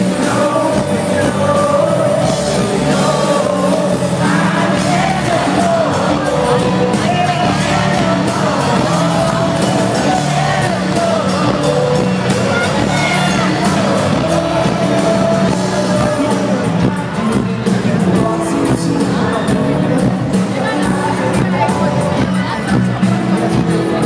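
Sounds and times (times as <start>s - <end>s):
man singing lead vocals: 0.0s - 24.0s
pop-rock band playing: 0.0s - 24.0s.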